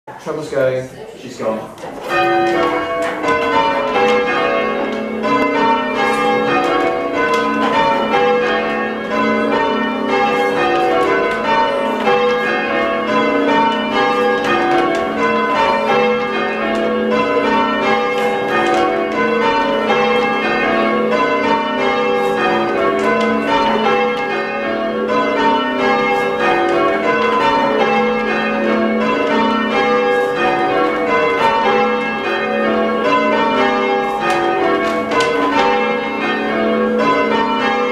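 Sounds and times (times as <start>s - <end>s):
church bells change ringing: 2.0s - 37.9s.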